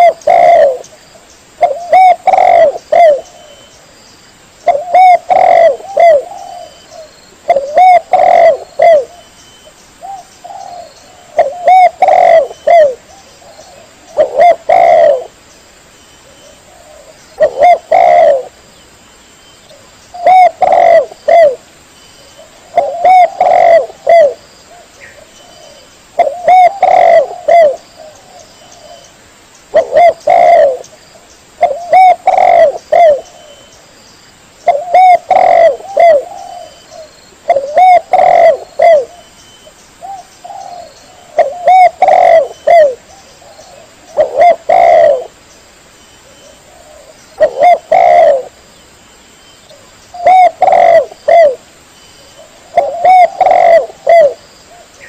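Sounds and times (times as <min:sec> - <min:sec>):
dove cooing: 0:00.0 - 0:00.9, 0:01.6 - 0:03.7, 0:04.6 - 0:09.3, 0:10.0 - 0:15.4, 0:16.2 - 0:18.6, 0:19.7 - 0:21.6, 0:22.3 - 0:29.1, 0:29.7 - 0:30.9, 0:31.6 - 0:33.7, 0:34.6 - 0:39.3, 0:40.0 - 0:45.4, 0:46.2 - 0:48.6, 0:49.7 - 0:51.7, 0:52.4 - 0:55.0.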